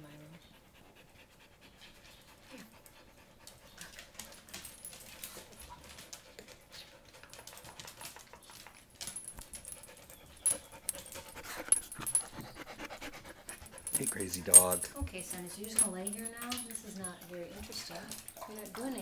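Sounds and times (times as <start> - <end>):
dog panting: 0.0 - 8.8, 9.5 - 19.0
rustling and clicking: 2.8 - 12.6, 13.4 - 19.0.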